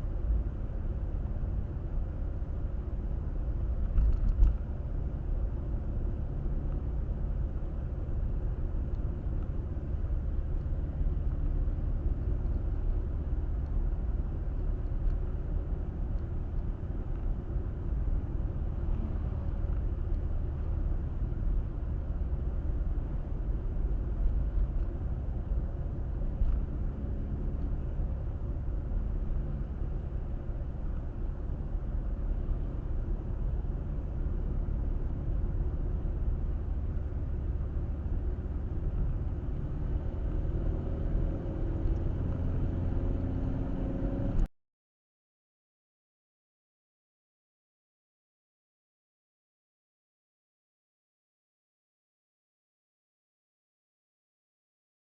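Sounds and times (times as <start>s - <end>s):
car driving on road: 0.0s - 44.5s.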